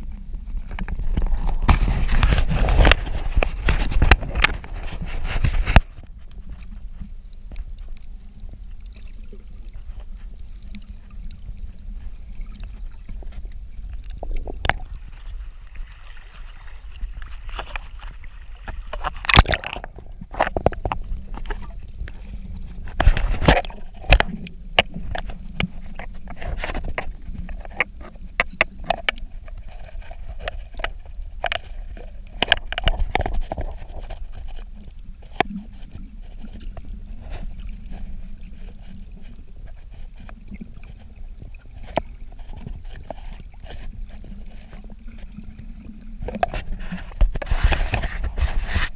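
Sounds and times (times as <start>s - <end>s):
muffled underwater sloshing: 0.0s - 48.9s.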